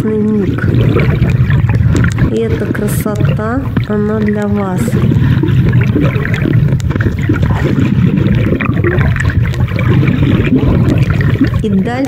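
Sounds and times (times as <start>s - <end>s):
faint underwater crackling: 0.0s - 12.0s
muffled underwater water rush: 0.0s - 12.0s.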